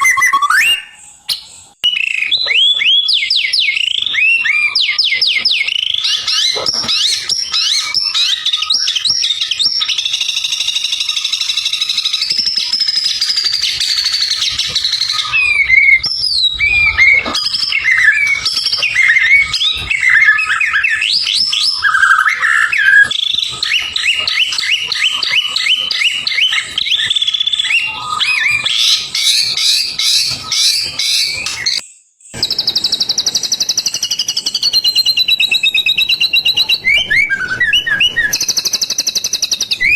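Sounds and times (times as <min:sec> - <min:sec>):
songbird trilling and whistling: 0:00.0 - 0:39.9.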